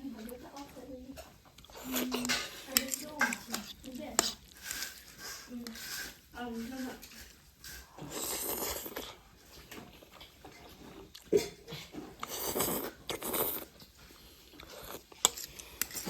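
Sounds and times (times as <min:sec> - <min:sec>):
chewing and biting noises: 0:00.3 - 0:06.2, 0:07.0 - 0:16.0.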